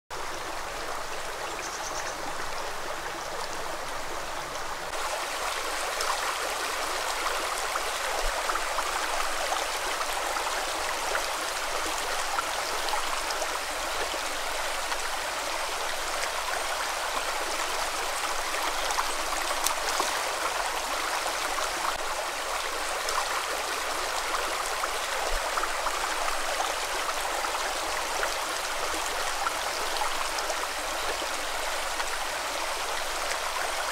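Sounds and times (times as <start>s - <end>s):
stream running over pebbles: 0.1s - 33.9s.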